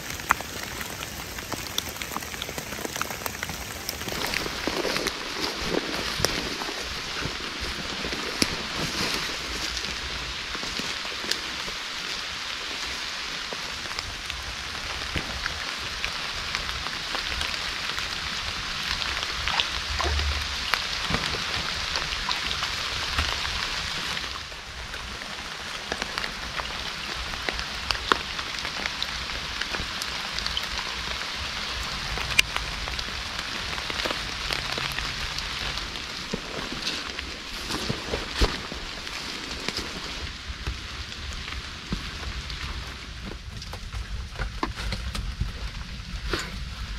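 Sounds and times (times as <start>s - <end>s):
rain on leaves and stream: 0.0s - 46.9s.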